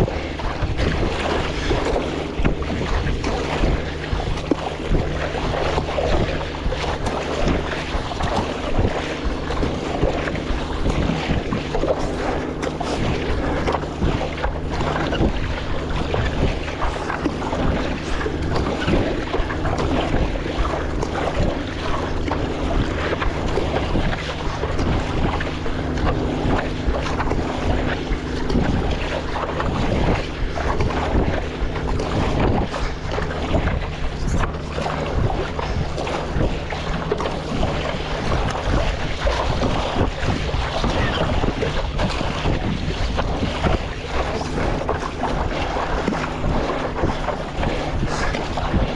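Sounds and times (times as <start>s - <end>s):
water splashing and sloshing: 0.0s - 48.9s
wind buffeting microphone: 0.0s - 48.9s.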